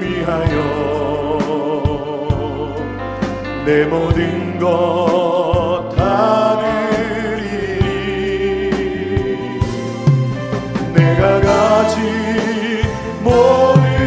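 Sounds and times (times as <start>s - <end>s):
people singing with vibrato: 0.0s - 14.0s
worship band playing: 0.0s - 14.0s.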